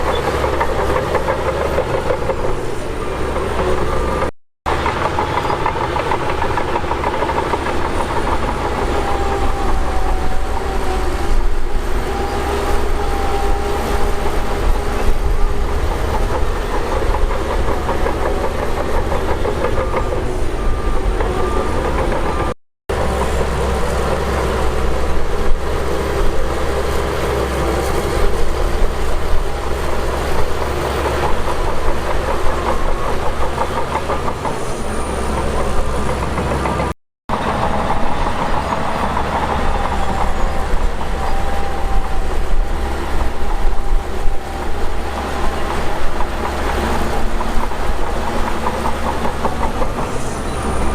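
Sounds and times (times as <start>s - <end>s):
heavy diesel machinery working: 0.0s - 50.9s.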